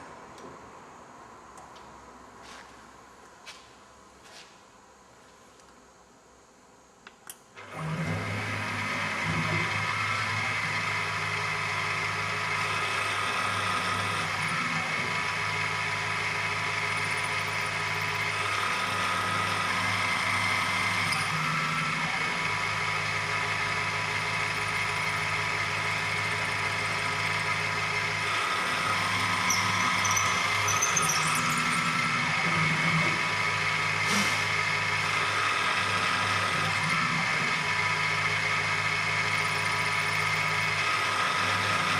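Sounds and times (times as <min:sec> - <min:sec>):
milling machine motor hum: 0:07.6 - 0:41.9.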